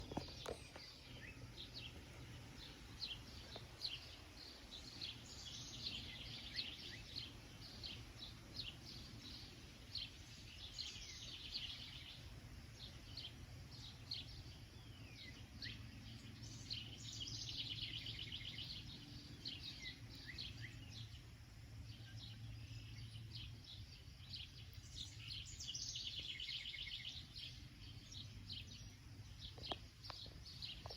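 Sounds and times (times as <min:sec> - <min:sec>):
bird trilled song: 0:00.0 - 0:30.9
low steady rumble: 0:00.0 - 0:30.9
songbirds chirping: 0:00.0 - 0:30.9.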